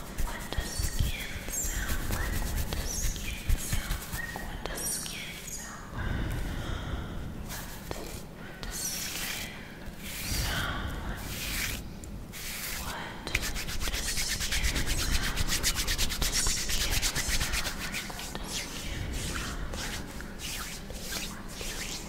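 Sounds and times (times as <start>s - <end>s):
hands scratching bare skin: 0.0s - 4.8s, 7.6s - 10.6s, 11.2s - 22.0s.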